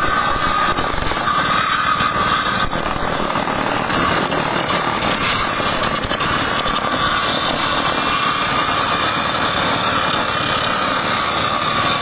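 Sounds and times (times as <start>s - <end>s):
circular saw ripping through wood: 0.0s - 12.0s
diesel engine running: 0.0s - 12.0s.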